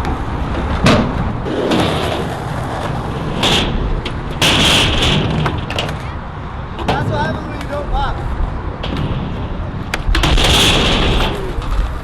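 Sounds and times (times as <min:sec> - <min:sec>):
skateboard clack: 0:00.0 - 0:12.0
skateboard wheels rolling on concrete: 0:00.0 - 0:12.0.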